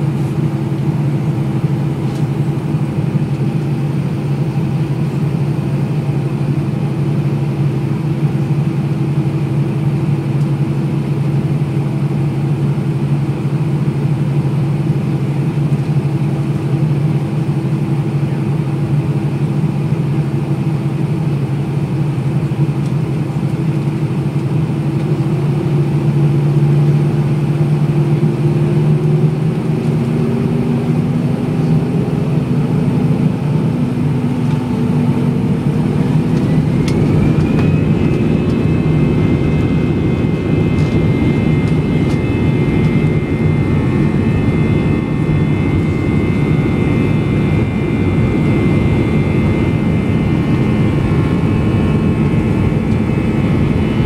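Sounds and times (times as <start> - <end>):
high engine whine: 0.0 - 54.0
jet engine drone in cabin: 0.0 - 54.0.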